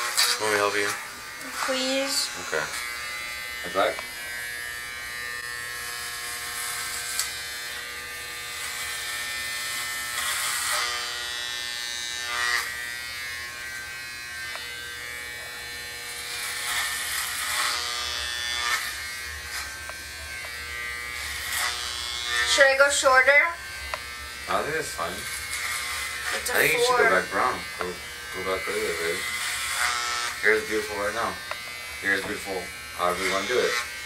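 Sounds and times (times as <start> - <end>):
electric hair clippers buzzing: 0.0 - 34.0.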